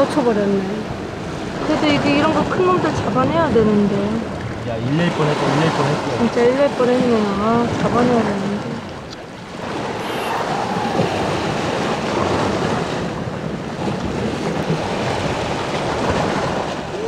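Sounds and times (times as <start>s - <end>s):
surf breaking against rocks: 1.0s - 17.0s.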